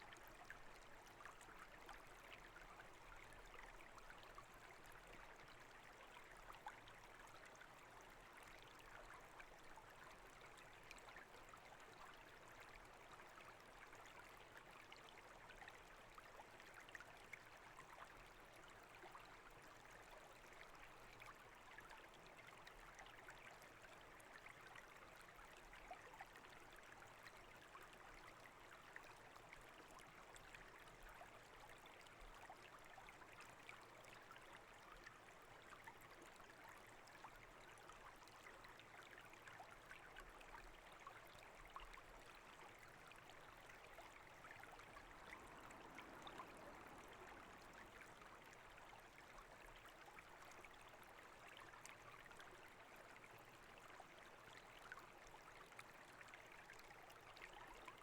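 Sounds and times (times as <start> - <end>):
brook babbling: 0.2 - 58.0.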